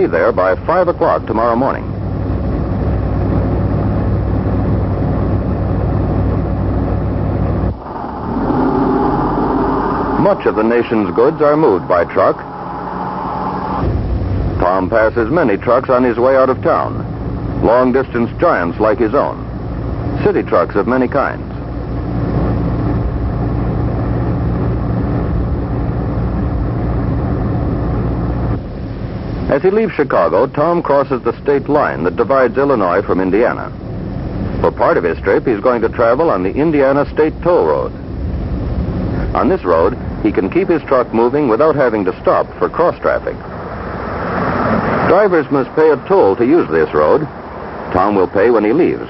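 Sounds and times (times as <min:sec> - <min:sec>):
heavy truck engine drone: 0:00.0 - 0:49.0
road traffic: 0:00.0 - 0:49.0.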